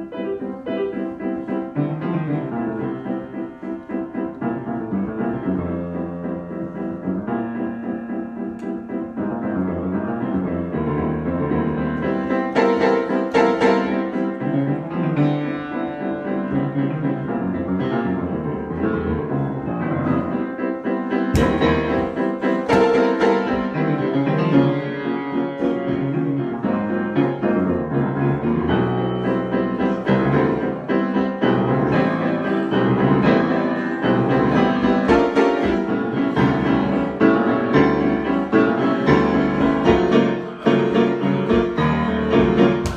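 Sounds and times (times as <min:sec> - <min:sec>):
piano chords: 0:00.0 - 0:42.9.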